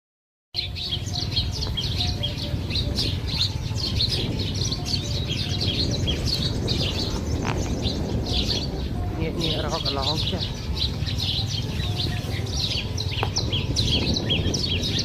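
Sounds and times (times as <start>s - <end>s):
small birds chirping: 0.6s - 15.0s
steady low rumble: 0.6s - 15.0s.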